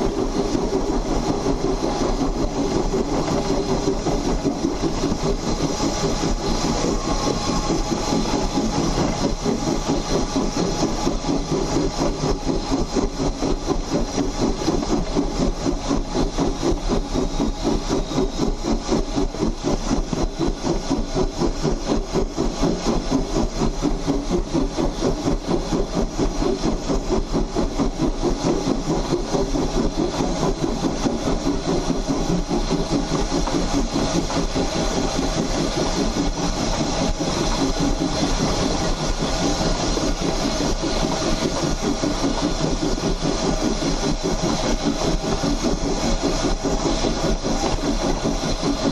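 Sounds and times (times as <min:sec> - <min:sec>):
steam locomotive chuffing: 0:00.0 - 0:48.9.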